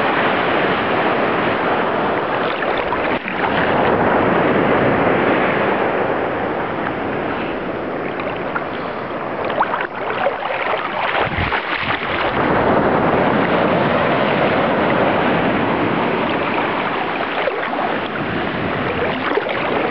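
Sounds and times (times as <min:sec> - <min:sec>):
sea water splashing: 0:00.0 - 0:19.9
wind buffeting microphone: 0:00.0 - 0:19.9.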